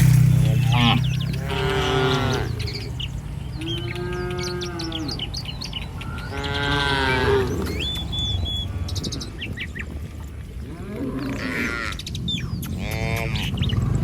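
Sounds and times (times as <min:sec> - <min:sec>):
birds chirping: 0:00.0 - 0:14.0
cattle mooing: 0:00.3 - 0:08.6, 0:10.6 - 0:13.8.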